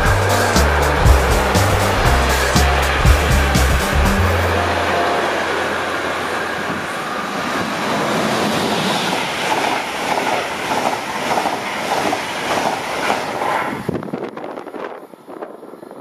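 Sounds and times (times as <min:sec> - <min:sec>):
train wheels rushing on rail: 0:00.0 - 0:16.0
wheels clickety-clack over rail joints: 0:00.0 - 0:16.0.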